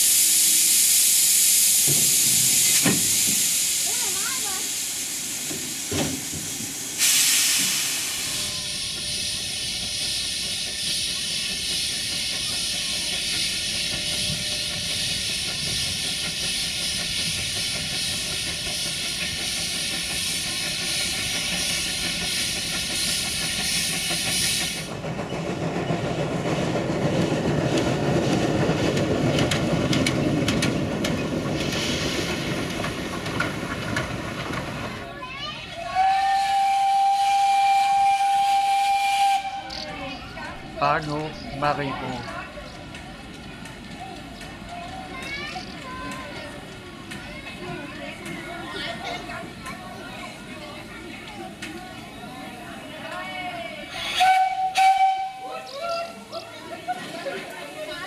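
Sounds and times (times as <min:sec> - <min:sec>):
locomotive running along track: 0:00.0 - 0:58.0
steam locomotive hissing steam: 0:00.0 - 0:58.0.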